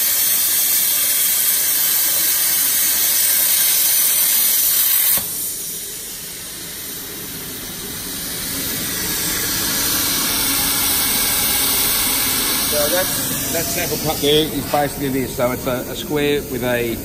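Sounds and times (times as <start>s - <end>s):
plasma torch loud hiss: 0.0s - 17.0s
quieter hiss: 2.0s - 17.0s.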